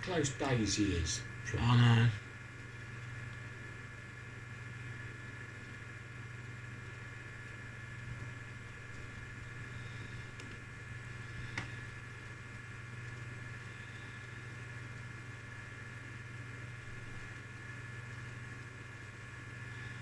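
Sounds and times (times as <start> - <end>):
low mechanical hum with whine: 0.0 - 20.0.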